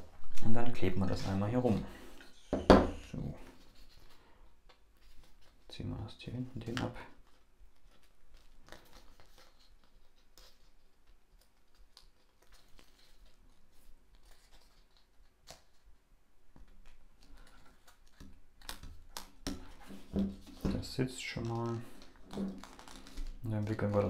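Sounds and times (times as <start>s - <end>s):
paper and tape rustling: 3.2s - 24.0s.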